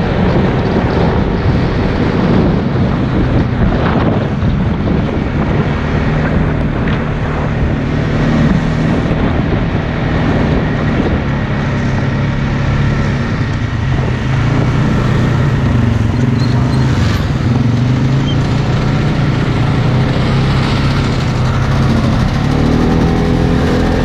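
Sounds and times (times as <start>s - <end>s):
atv engine running: 0.0s - 24.0s
wind buffeting microphone: 0.0s - 24.0s.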